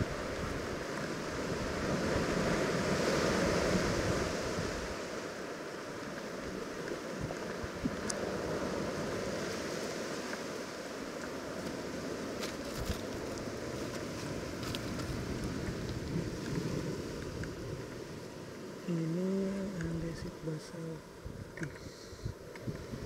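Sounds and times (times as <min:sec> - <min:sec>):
wind and surf rushing: 0:00.0 - 0:23.0.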